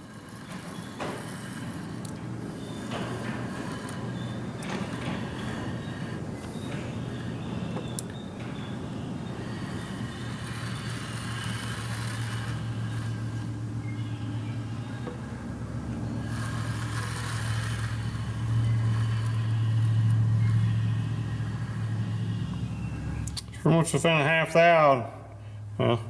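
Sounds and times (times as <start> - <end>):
electric motor humming: 0.0 - 23.6.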